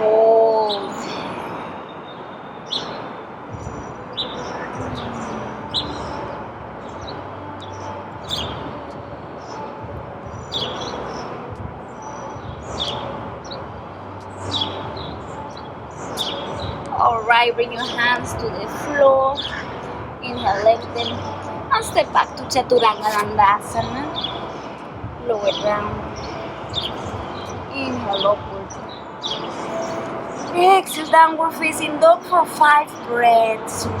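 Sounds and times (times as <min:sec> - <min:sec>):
steady background noise: 0:00.0 - 0:34.0
small birds chirping: 0:01.9 - 0:34.0.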